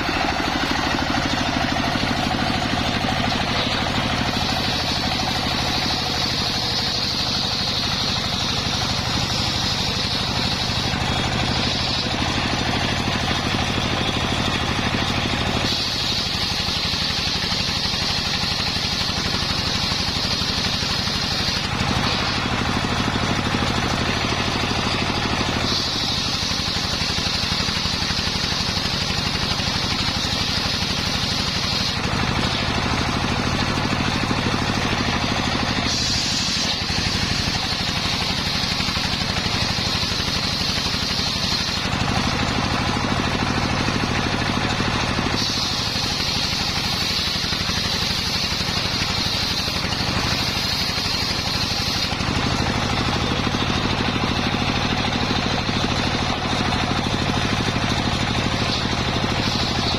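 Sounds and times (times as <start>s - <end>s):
engine-driven circular saw cutting: 0.0s - 59.9s.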